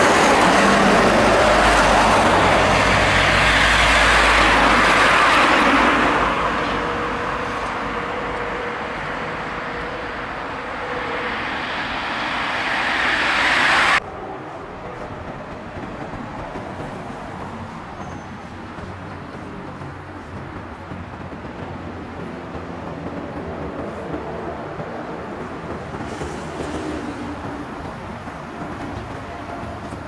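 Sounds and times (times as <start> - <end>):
bus tyres on road: 0.0 - 30.0
street sound: 0.0 - 30.0.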